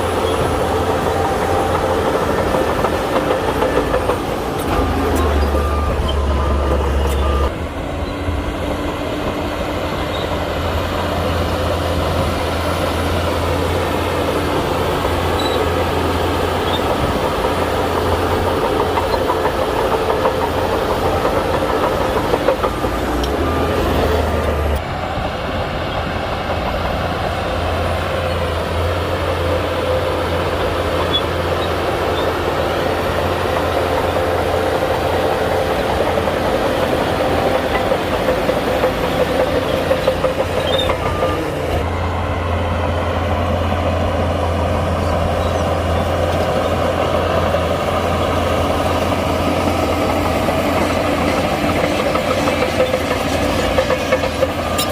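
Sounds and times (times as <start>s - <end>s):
bulldozer diesel engine droning: 0.0s - 54.9s
steel tracks clanking: 0.0s - 54.9s.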